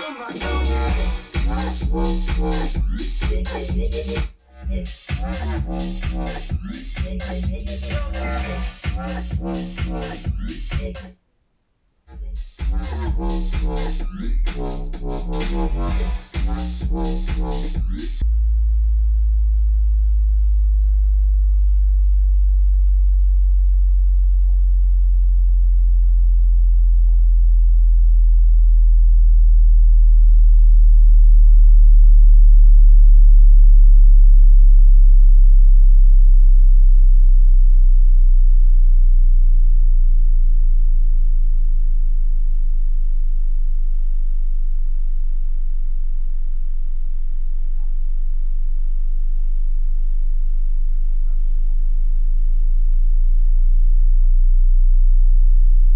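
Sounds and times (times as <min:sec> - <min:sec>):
deep bass test tone: 0:00.7 - 0:11.1, 0:12.2 - 0:55.9.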